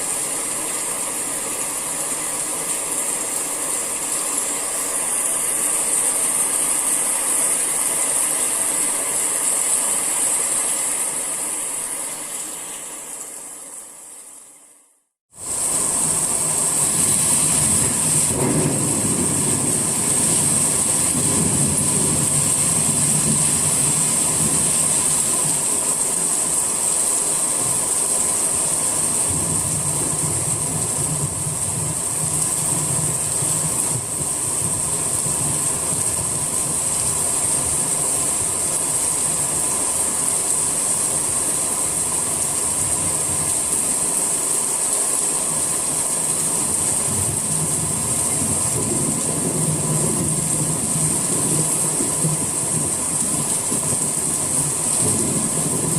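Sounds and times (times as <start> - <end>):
rain hissing: 0.0 - 14.6, 15.3 - 55.9.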